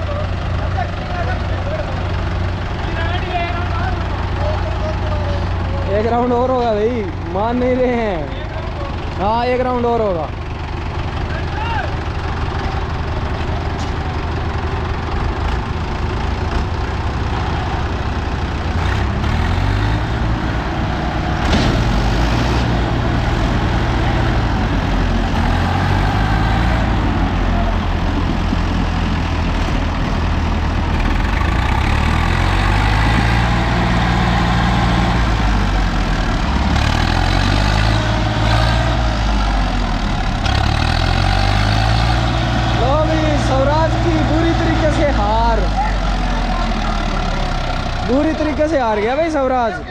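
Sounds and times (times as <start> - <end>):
tractor diesel engines straining: 0.0 - 49.9.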